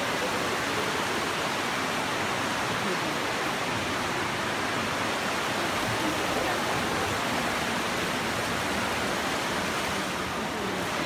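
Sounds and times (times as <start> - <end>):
river water rushing over stones: 0.0 - 11.0.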